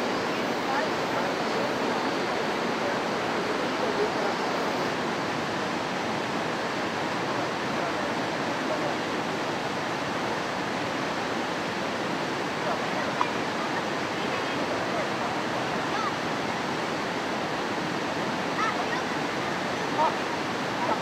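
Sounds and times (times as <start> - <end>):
flowing water rushing: 0.0 - 21.0.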